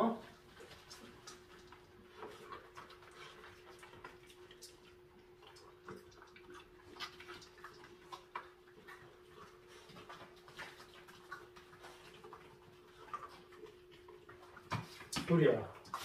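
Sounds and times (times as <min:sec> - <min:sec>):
dogs crunching kibble: 0:00.0 - 0:16.0.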